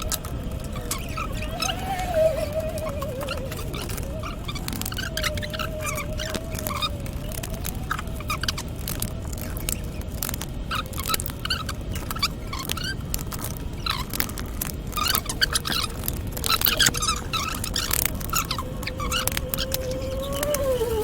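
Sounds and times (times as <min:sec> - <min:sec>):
chirping squeaks and ticks: 0:00.0 - 0:21.0
laptop fan whine: 0:00.0 - 0:21.0.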